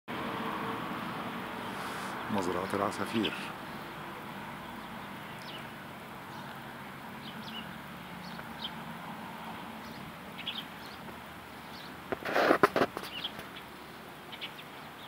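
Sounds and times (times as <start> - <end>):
sparrows chirping: 1.0 - 15.0.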